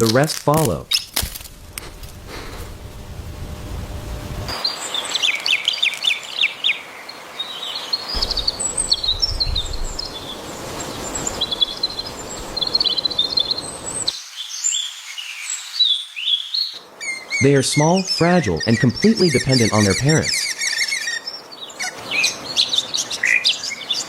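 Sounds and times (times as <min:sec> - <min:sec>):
steady background hiss: 0:00.0 - 0:24.0
songbirds chirping: 0:04.5 - 0:24.0.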